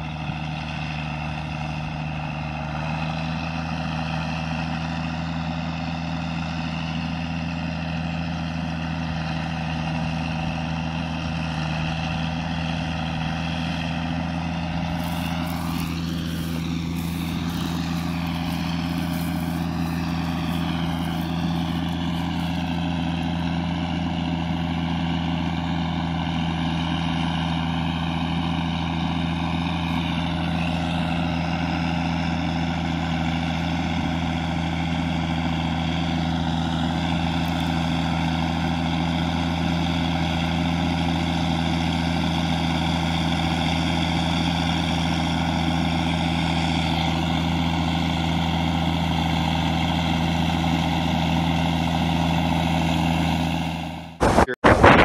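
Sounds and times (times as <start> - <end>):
diesel tractor engine under load: 0.0 - 55.0.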